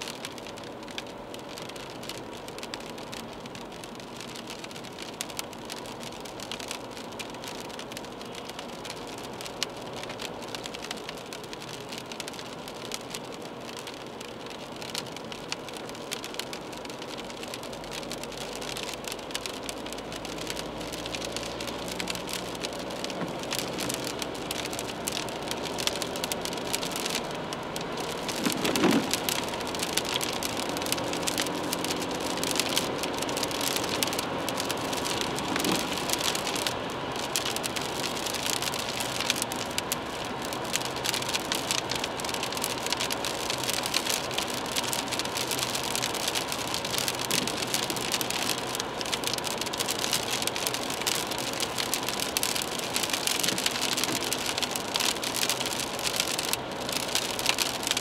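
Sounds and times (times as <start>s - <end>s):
car engine hum: 0.0s - 58.0s
raindrops hitting windscreen and roof: 0.0s - 58.0s
tyre hiss on wet road: 0.0s - 58.0s.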